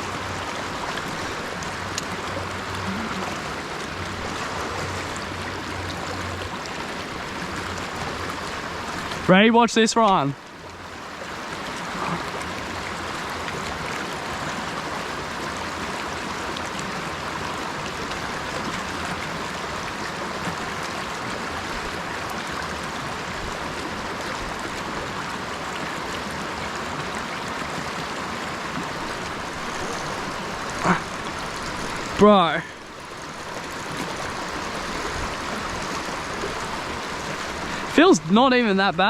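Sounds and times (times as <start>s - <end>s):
creek water flowing: 0.0s - 39.0s.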